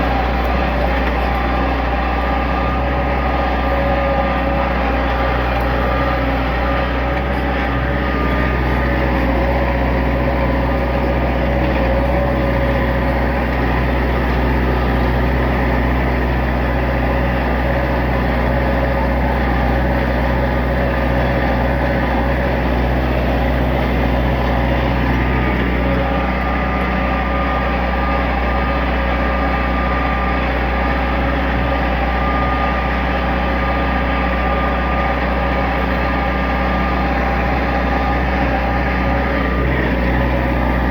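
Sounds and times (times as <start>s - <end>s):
tractor engine running under load: 0.0s - 40.9s.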